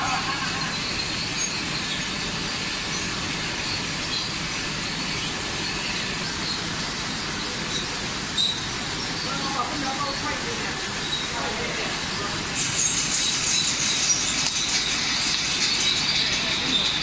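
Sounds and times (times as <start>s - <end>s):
machinery running steadily: 0.0s - 17.0s.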